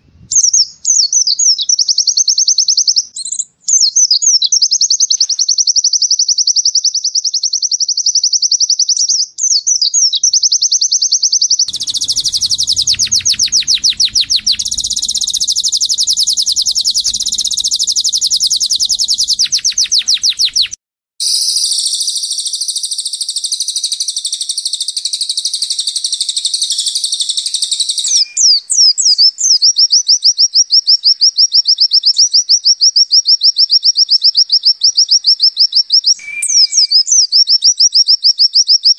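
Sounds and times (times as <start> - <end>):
songbirds singing trills: 0.3 - 38.9.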